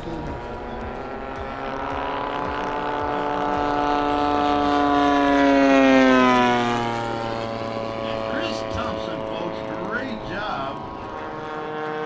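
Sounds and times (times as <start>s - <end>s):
model plane propeller engine drone: 0.0s - 12.0s.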